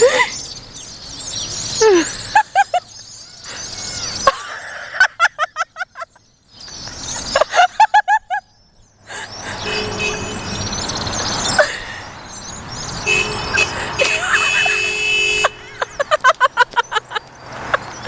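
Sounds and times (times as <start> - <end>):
flock of birds calling: 0.0 - 8.3, 9.1 - 18.0.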